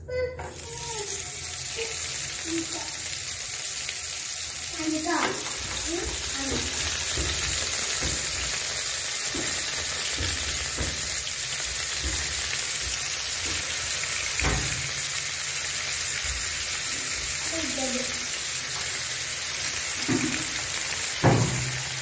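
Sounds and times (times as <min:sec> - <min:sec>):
fish sizzling in oil: 0:00.5 - 0:22.0.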